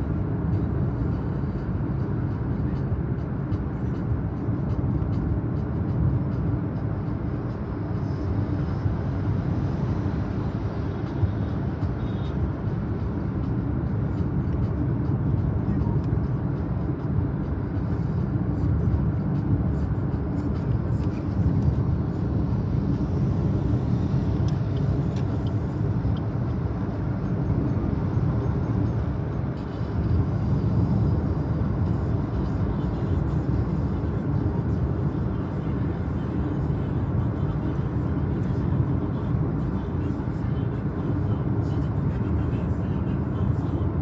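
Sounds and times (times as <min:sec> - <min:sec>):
car engine and tyres rumbling: 0:00.0 - 0:44.0.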